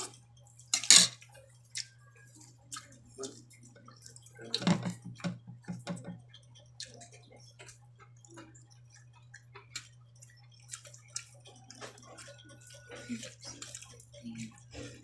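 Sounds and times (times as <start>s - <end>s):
steady low hum: 0.0s - 15.0s
chewing clicks and smacks: 0.1s - 14.7s.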